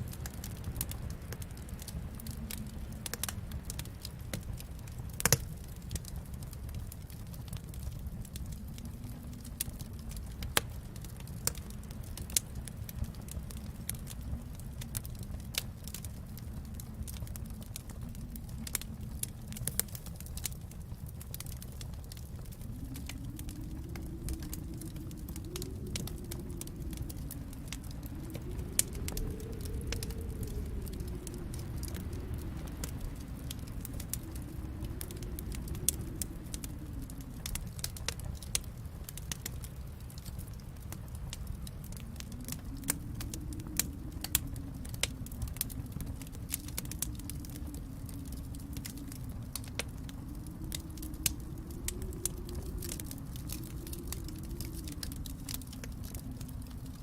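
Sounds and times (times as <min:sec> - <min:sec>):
storm wind rumbling: 0:00.0 - 0:57.0
wood fire crackling: 0:00.0 - 0:57.0.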